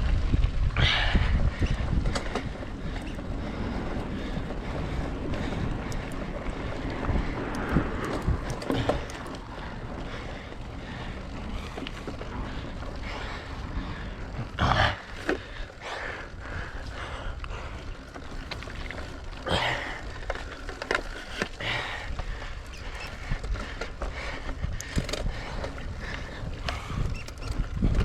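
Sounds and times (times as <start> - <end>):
wind buffeting microphone: 0.0 - 28.0
person breathing: 0.8 - 27.1.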